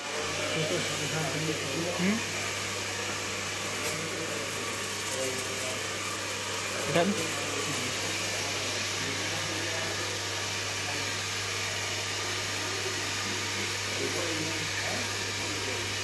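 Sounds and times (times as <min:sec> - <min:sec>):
electric fan motor: 0:00.0 - 0:16.0.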